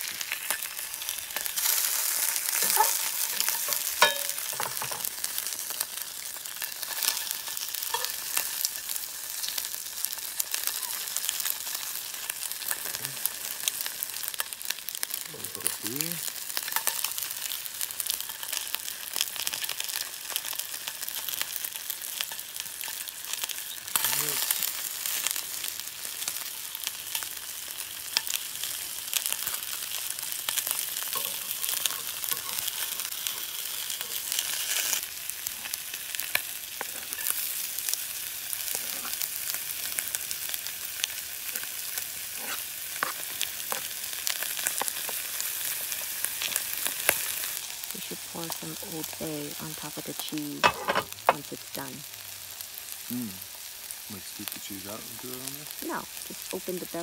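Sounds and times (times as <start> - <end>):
fish sizzling in oil: 0.0 - 57.0.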